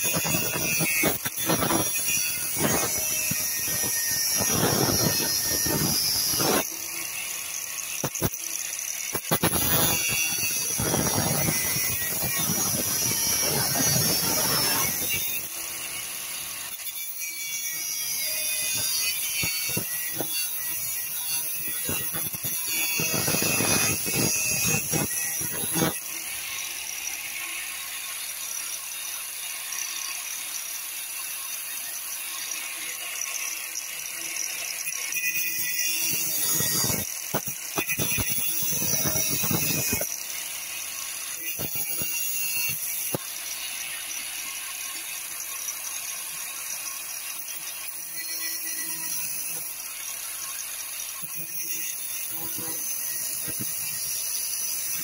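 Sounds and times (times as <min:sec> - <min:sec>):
grinder disc grating on metal: 0:00.0 - 0:29.0, 0:31.6 - 0:55.0
angle grinder whining: 0:00.0 - 0:55.0.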